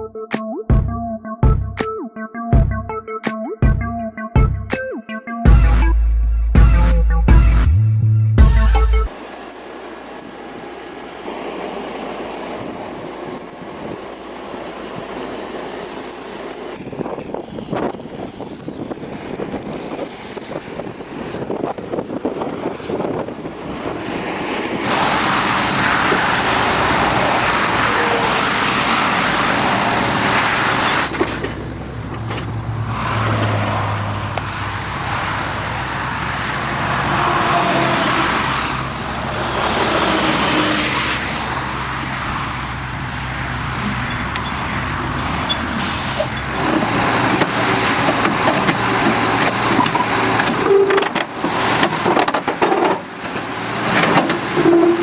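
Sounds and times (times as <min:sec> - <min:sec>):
heavy machinery engines running: 0:08.4 - 0:55.0.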